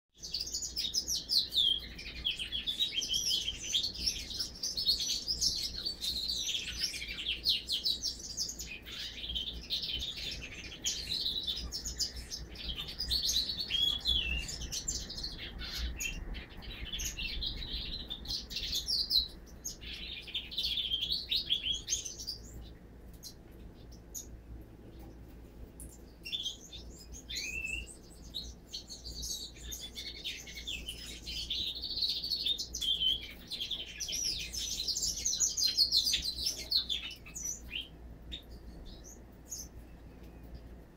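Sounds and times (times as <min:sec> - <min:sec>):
bird twittering and trilling: 0:00.2 - 0:40.9.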